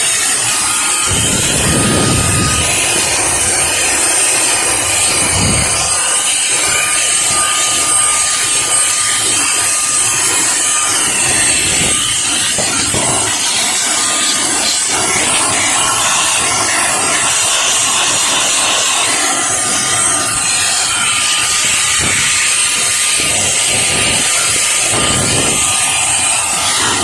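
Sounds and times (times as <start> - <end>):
stick vacuum running: 0.0 - 27.0.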